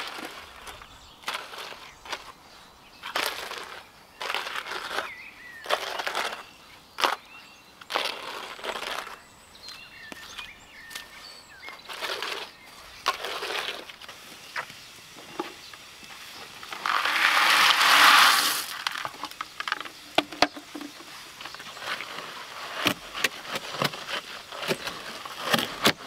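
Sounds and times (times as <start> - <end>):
shovel scraping concrete: 0.0 - 2.4, 3.0 - 11.1, 11.7 - 26.0.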